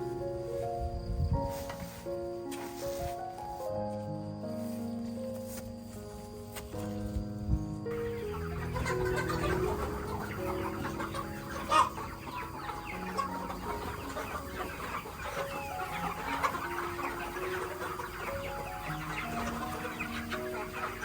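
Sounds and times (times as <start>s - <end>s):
chickens clucking and chirping: 0.0s - 21.0s
soft background music: 0.0s - 21.0s.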